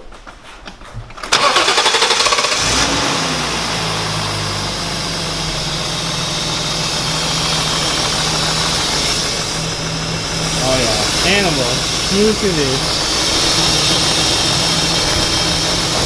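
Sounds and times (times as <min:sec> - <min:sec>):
car engine starting and idling: 0:01.2 - 0:16.0.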